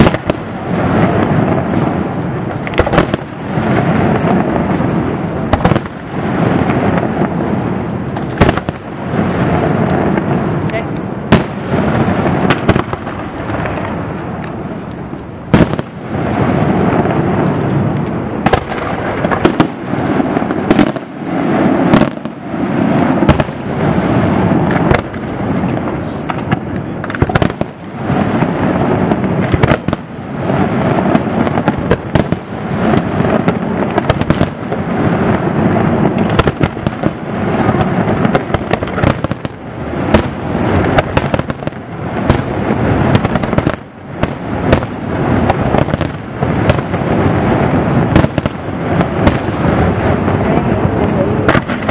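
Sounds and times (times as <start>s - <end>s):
firework shells booming: 0.0s - 51.9s
sharp firework reports: 0.0s - 51.9s.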